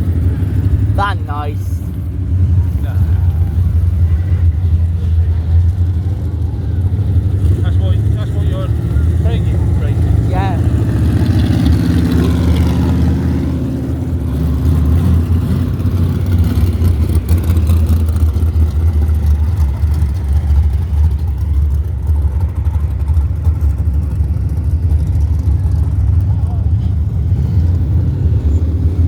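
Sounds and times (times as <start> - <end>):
racing car engines rumbling: 0.0 - 29.0.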